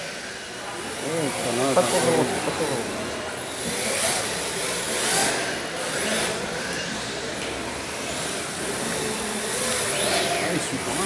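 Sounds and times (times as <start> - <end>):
busy indoor hall noise: 0.0 - 11.0.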